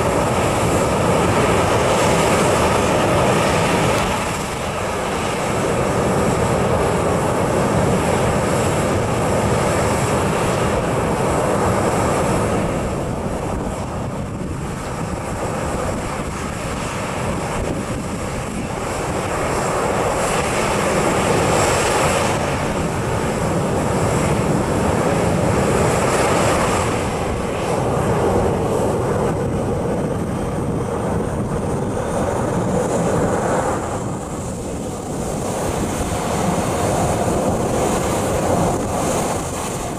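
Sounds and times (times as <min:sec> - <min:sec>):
jet engines taxiing: 0:00.0 - 0:39.9.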